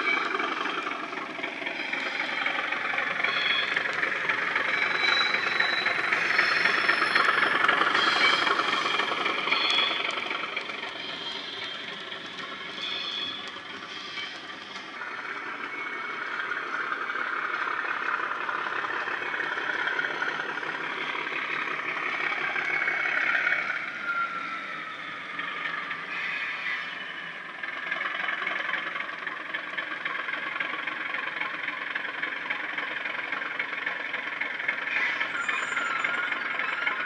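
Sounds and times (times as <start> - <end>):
engine whine: 0.0 - 37.0
model train diesel engine sound: 0.0 - 37.0.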